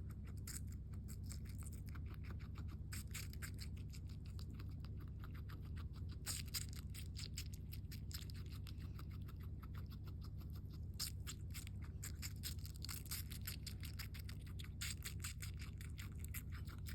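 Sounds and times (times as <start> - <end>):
guinea pig chewing: 0.0 - 16.9
low steady hum: 0.0 - 16.9.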